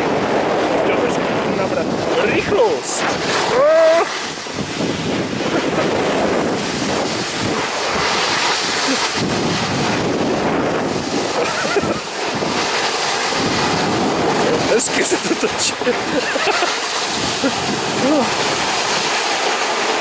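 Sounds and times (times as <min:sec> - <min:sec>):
snow tube sliding on snow: 0:00.0 - 0:20.0
wind buffeting microphone: 0:00.0 - 0:20.0.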